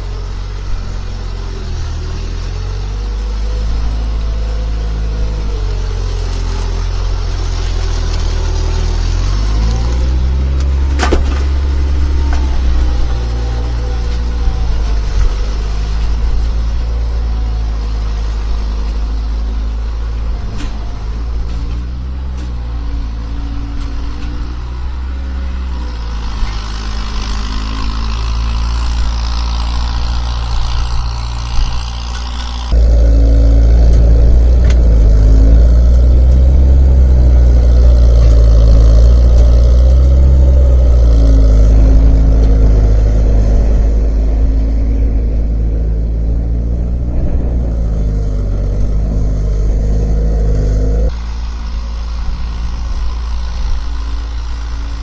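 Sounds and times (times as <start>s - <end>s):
skid steer engine running: 0.0s - 55.0s.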